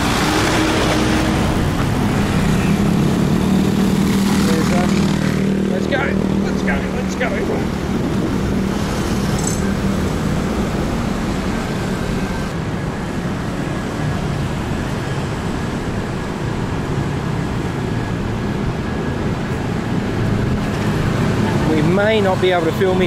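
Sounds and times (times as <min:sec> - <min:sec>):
cars passing on road: 0:00.0 - 0:23.0.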